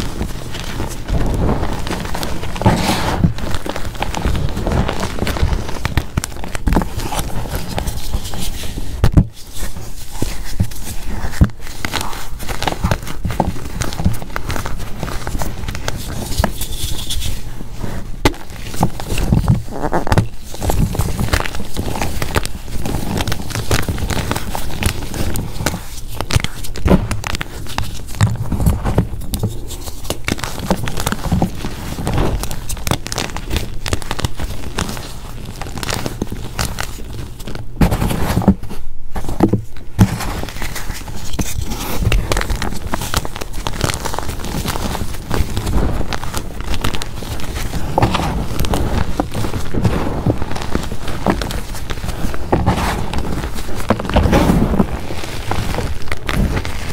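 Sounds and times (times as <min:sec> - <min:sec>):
hands crushing chalk chunks: 0:00.0 - 0:56.9.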